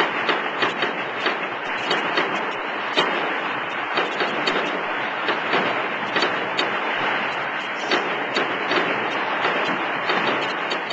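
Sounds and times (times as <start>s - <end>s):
fireworks crackling: 0.0s - 10.9s
fireworks sharp bangs: 0.0s - 10.9s.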